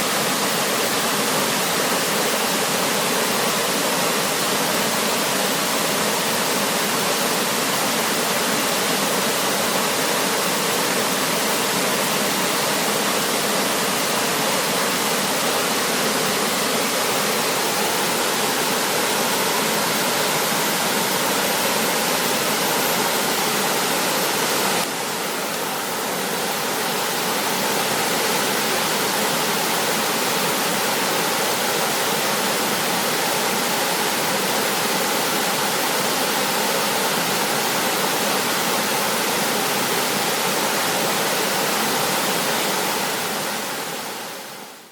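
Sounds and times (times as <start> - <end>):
river flowing swiftly: 0.0 - 44.9.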